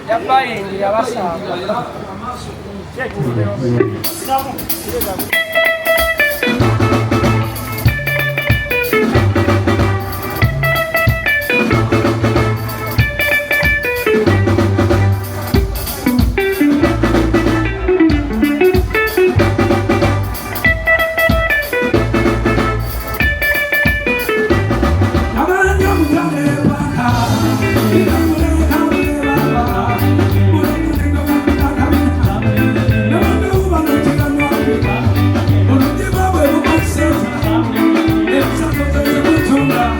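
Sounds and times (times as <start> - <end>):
guitar: 3.1 - 39.9
drum kit: 3.8 - 39.9
bass line: 6.2 - 39.9.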